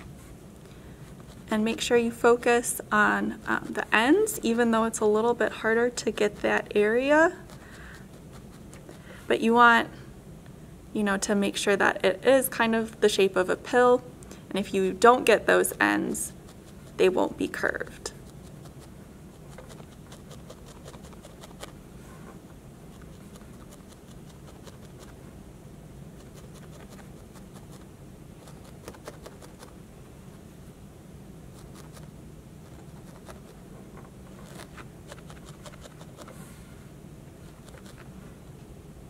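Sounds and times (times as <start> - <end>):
low room hum: 0.0 - 39.0.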